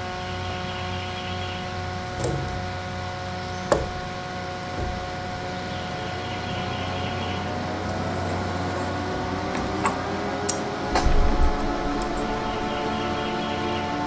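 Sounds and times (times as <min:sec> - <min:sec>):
desk fan humming: 0:00.0 - 0:14.0.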